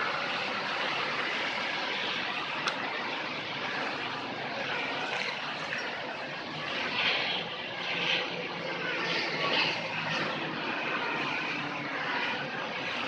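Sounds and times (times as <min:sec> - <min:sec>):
car engine running rough drone: 0:00.0 - 0:13.0.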